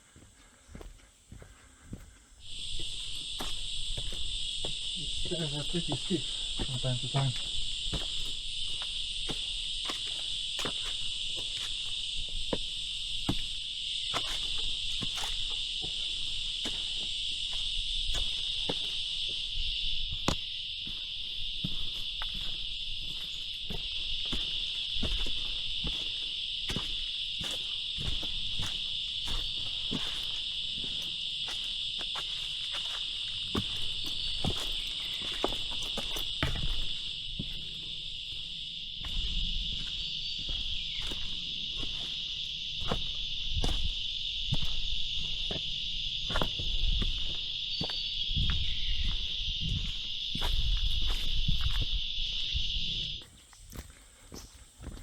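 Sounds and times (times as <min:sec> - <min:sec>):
footsteps on a trail: 0:00.0 - 0:55.0
jungle insects buzzing: 0:00.0 - 0:55.0.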